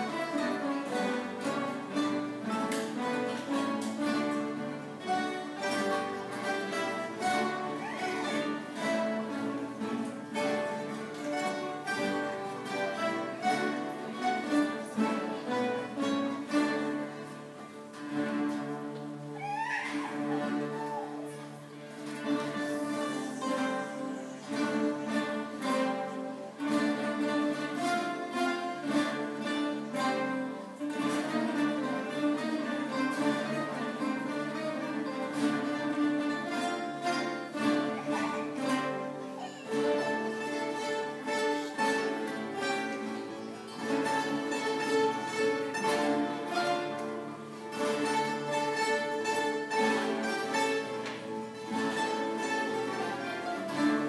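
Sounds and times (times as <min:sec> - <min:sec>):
acoustic guitar ensemble playing: 0:00.0 - 0:54.0.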